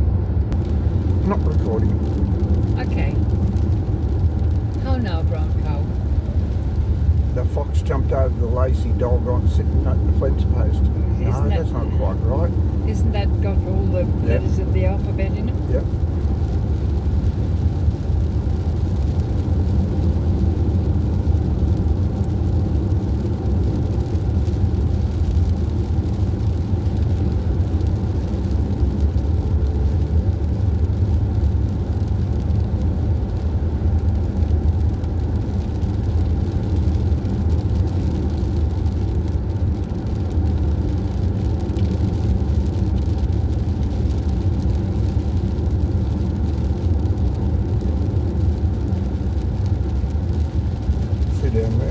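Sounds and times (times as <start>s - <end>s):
vehicle engine and road rumble: 0.0s - 51.9s.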